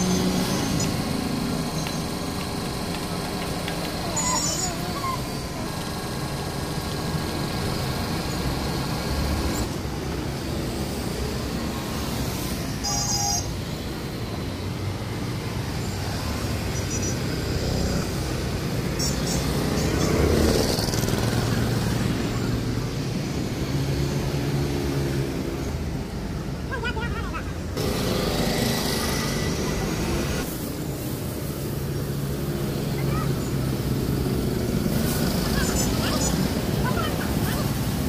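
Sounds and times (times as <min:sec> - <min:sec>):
cars passing: 0:00.0 - 0:03.8, 0:05.4 - 0:38.0
motorcycles and scooters passing: 0:00.0 - 0:12.8, 0:13.6 - 0:30.5, 0:31.5 - 0:38.0.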